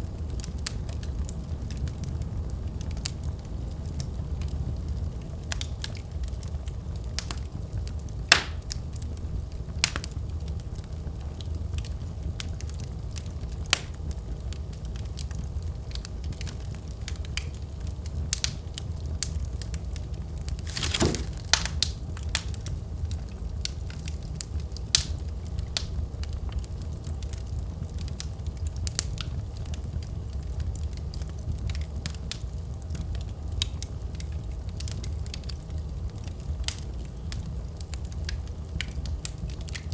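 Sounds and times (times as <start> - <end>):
low rumble of flames: 0.0 - 39.9
wood fire crackling and popping: 0.2 - 39.9.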